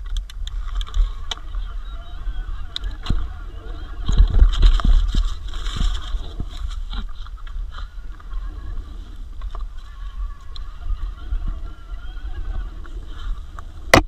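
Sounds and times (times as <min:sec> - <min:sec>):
bike rattling over rough ground: 0:00.0 - 0:14.0
wind rumbling on microphone: 0:00.0 - 0:14.0.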